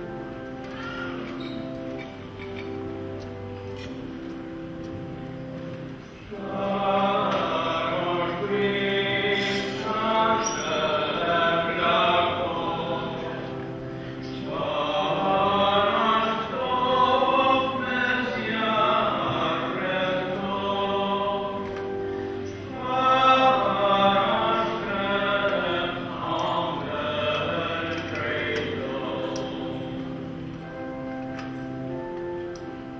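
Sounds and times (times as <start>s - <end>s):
choir singing a slow hymn: 3.3s - 32.0s.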